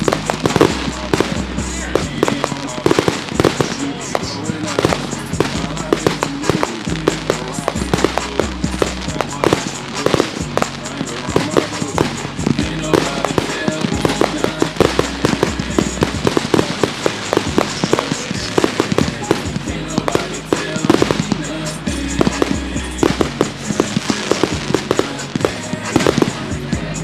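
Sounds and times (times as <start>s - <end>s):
fireworks bangs and crackles: 0.0s - 27.0s
rap song with bass: 0.0s - 27.0s.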